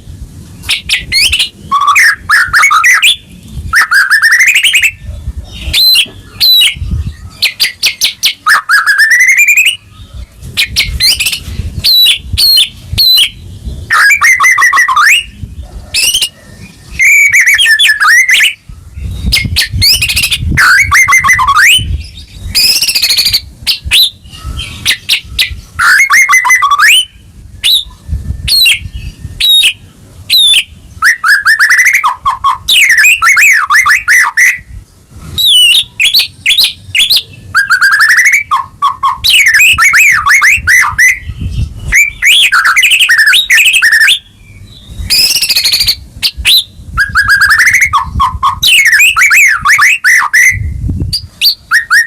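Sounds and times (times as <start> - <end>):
bird singing whistles and trills: 0.0 - 34.8, 35.4 - 52.0.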